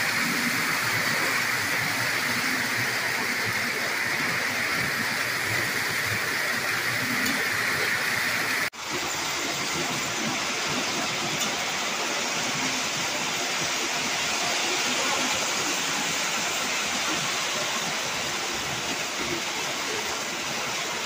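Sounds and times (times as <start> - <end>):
model trains rolling whir: 0.0 - 21.0.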